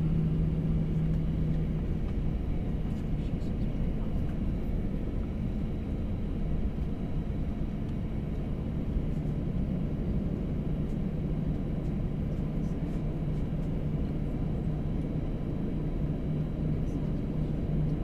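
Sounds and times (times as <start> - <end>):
jet engines droning: 0.0 - 18.0.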